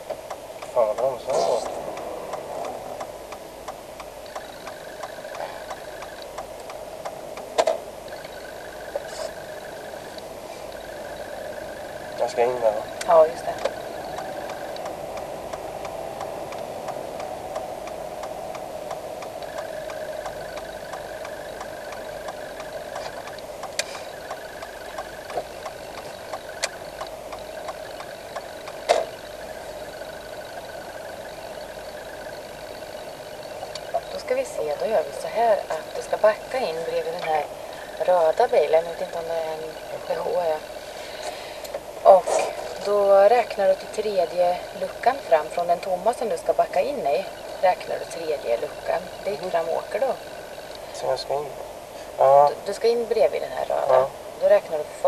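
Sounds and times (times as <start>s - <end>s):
car engine hum: 0.0s - 55.0s
turn signal ticking: 0.0s - 55.0s.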